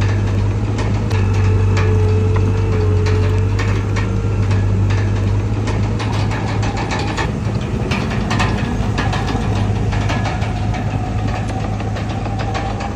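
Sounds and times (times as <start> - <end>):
heavy diesel engine running: 0.0 - 12.9
short clanks and ticks: 0.0 - 12.9.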